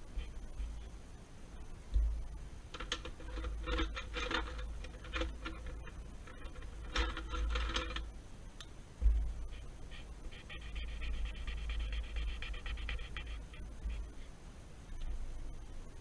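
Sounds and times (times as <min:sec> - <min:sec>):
faint ringing tone: 0:00.0 - 0:16.0.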